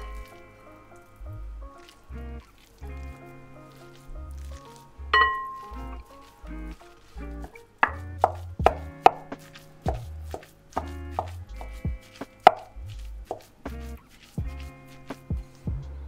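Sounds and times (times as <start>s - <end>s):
bass notes: 0.0s - 16.0s
pitched melody: 0.0s - 16.0s.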